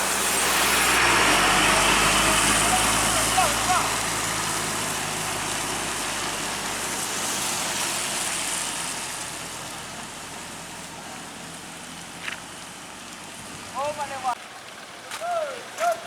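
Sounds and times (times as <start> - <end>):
heavy vehicle engine running low: 0.0 - 14.4.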